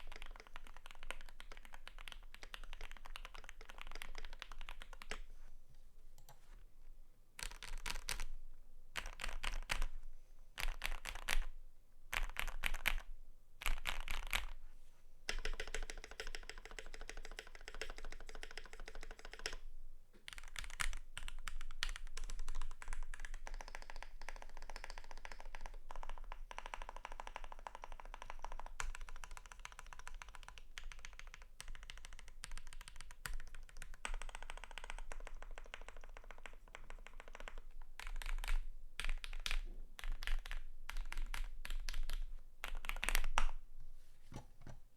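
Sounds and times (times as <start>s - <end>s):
mechanical keyboard typing: 0.0s - 5.2s, 7.4s - 8.3s, 9.0s - 9.9s, 10.6s - 11.5s, 12.1s - 14.5s, 15.3s - 19.6s, 20.3s - 43.5s.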